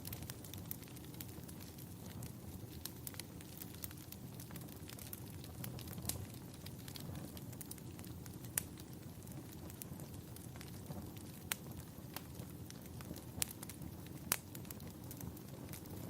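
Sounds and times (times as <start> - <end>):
low fire rushing: 0.0 - 16.0
wood fire crackling and popping: 0.0 - 16.0.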